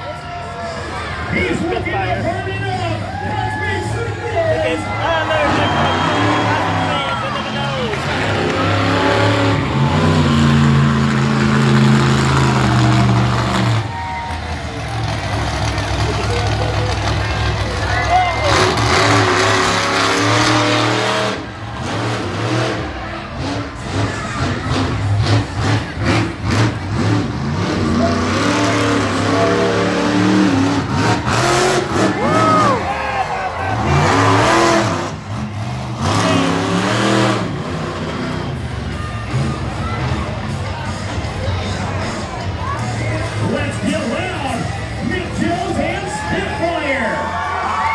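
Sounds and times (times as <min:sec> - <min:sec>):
monster truck engine running loud: 0:00.0 - 0:47.9.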